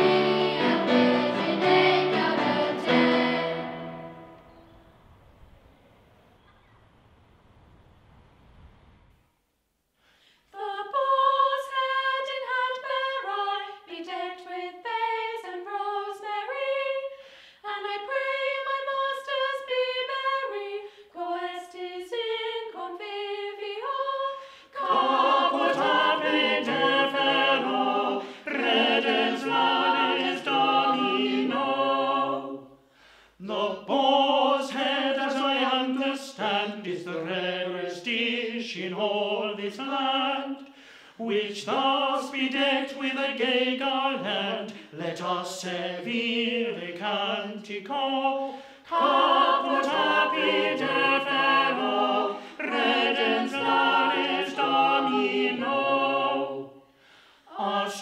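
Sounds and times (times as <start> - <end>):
choir singing unaccompanied: 0.0 - 4.6, 10.6 - 32.8, 33.4 - 40.6, 41.2 - 56.8, 57.5 - 58.0.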